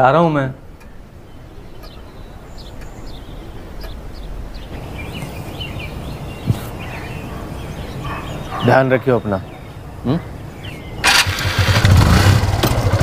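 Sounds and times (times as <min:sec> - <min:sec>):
birds chirping: 0:00.0 - 0:13.0
low background noise: 0:00.0 - 0:13.0.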